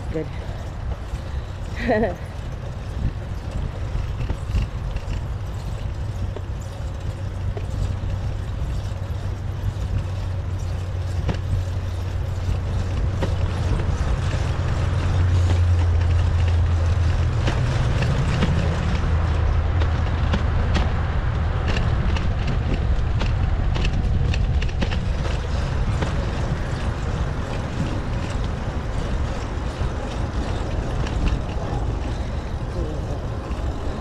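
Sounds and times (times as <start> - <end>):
bicycle riding rumble: 0.0 - 34.0
light clicks and rattles: 0.0 - 34.0.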